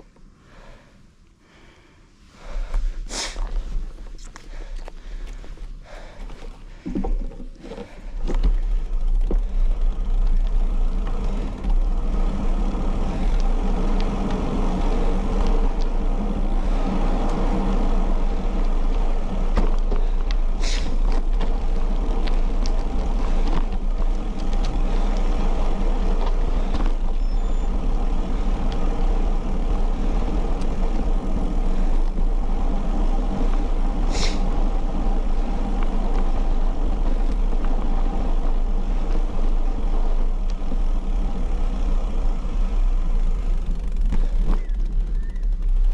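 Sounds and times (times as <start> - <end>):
tyre noise on road: 0.0 - 45.9.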